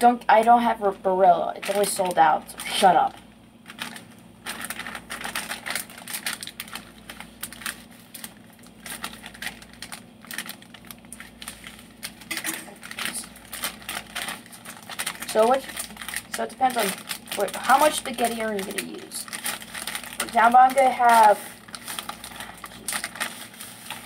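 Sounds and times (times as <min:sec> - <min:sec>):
plastic wrapper crinkling: 0:01.6 - 0:24.0.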